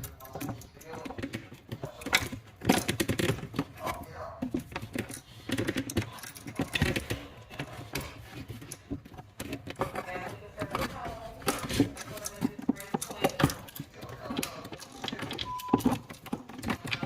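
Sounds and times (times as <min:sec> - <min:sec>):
small hard objects clicking and rattling: 0:00.0 - 0:17.0.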